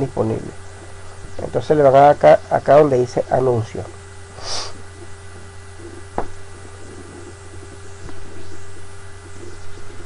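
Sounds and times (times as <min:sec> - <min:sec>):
faint constant tone: 0:00.0 - 0:10.0
low electrical hum and hiss: 0:00.0 - 0:10.0.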